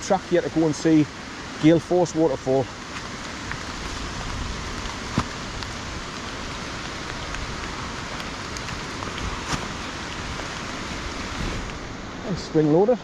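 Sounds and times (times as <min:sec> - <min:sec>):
fast-running water: 0:00.0 - 0:13.0
rain hissing: 0:00.0 - 0:13.0.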